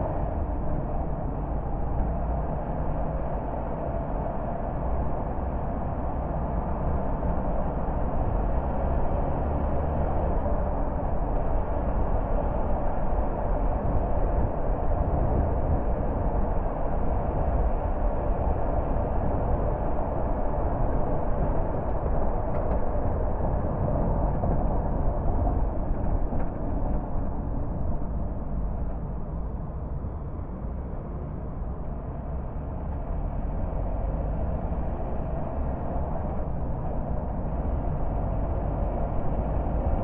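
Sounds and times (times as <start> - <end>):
car tyre and engine rumble: 0.0 - 40.0.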